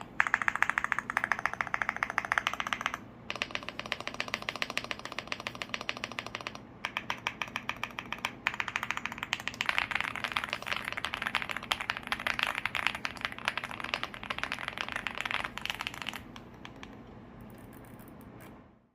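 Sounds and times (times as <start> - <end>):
mechanical keyboard typing: 0.0 - 18.6.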